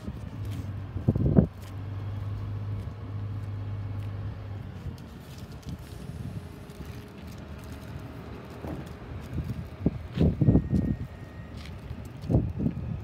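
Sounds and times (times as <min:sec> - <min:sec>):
crane engine humming: 0:00.0 - 0:13.0.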